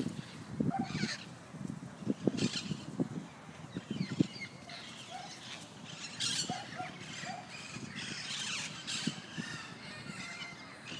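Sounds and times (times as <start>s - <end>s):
parrots calling and chattering: 0.1s - 1.4s, 2.1s - 10.9s.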